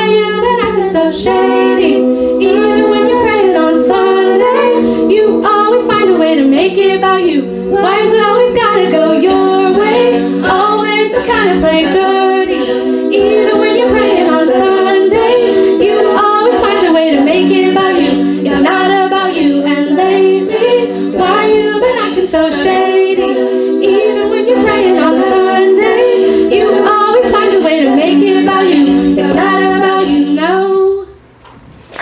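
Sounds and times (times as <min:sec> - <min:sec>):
a cappella group singing chords: 0:00.0 - 0:31.2.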